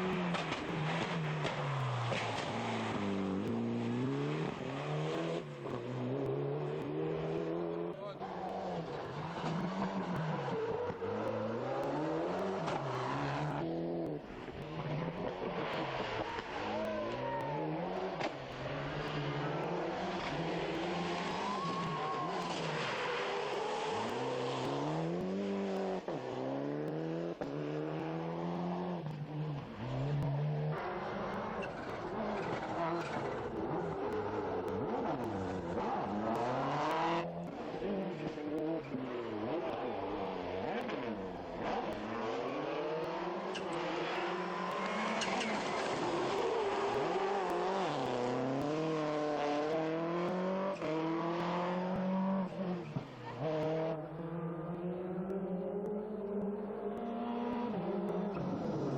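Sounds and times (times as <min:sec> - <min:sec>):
rally car engine at full throttle: 0:00.0 - 0:58.9.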